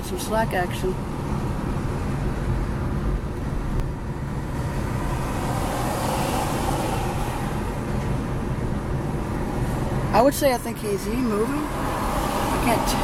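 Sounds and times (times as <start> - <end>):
road traffic: 0.0 - 13.0
vehicle passing: 0.4 - 13.0.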